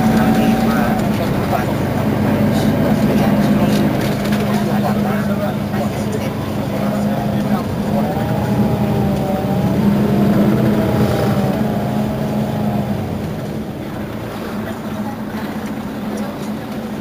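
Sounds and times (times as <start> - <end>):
bus diesel engine idling: 0.0 - 17.0.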